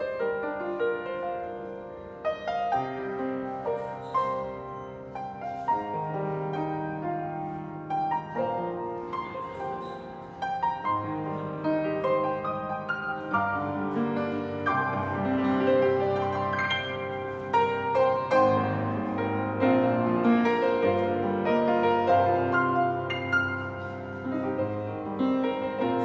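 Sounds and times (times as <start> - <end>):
grand piano melody: 0.0 - 26.0.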